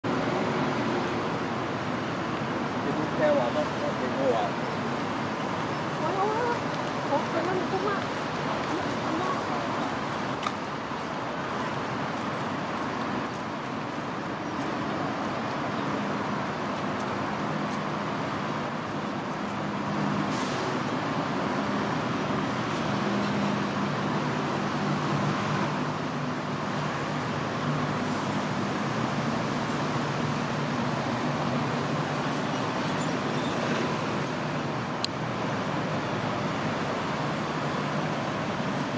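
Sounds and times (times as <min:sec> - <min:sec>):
passing vehicle engines: 0:00.0 - 0:38.9
road traffic noise: 0:00.0 - 0:38.9.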